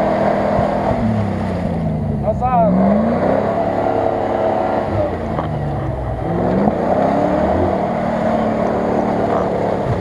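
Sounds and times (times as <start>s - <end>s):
engine revving under load: 0.0s - 10.0s.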